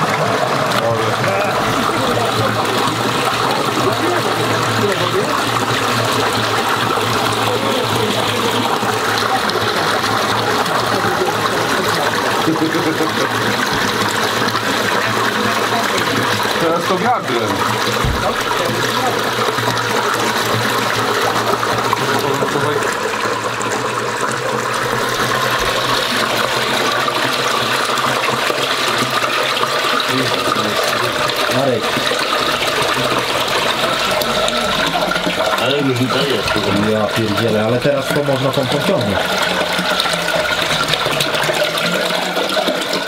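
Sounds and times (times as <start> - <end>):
water churning and rushing: 0.0 - 43.0.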